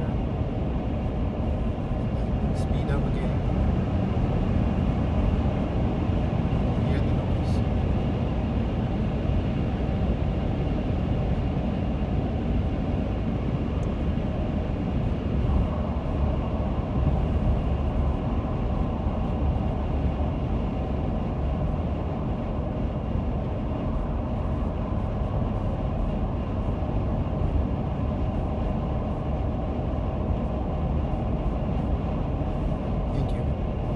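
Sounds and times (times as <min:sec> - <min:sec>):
wind and road noise in car: 0:00.0 - 0:33.9.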